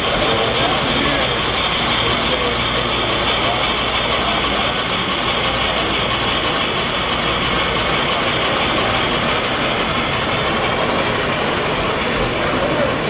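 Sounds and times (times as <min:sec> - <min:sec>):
busy exhibition hall din: 0:00.0 - 0:13.0
model trains running: 0:00.0 - 0:13.0.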